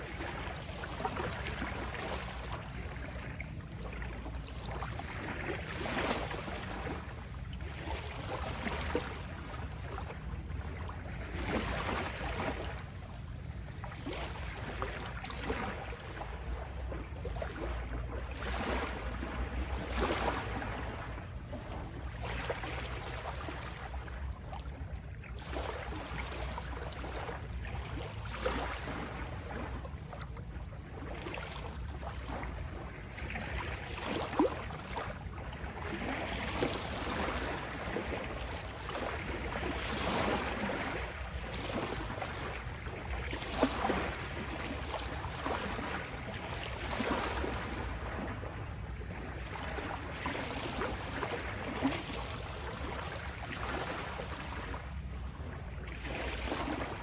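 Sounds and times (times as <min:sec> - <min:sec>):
waves lapping on shore: 0:00.0 - 0:57.0.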